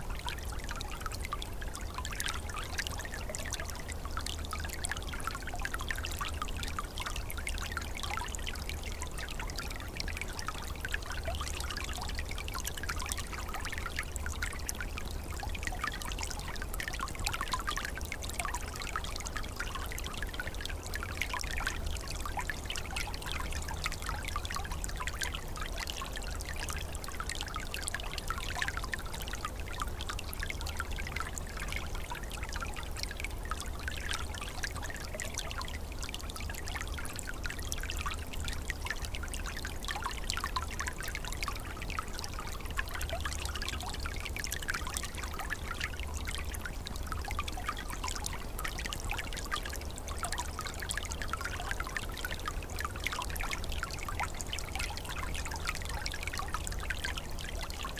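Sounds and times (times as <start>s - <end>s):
stream trickling and gurgling: 0.0s - 57.9s.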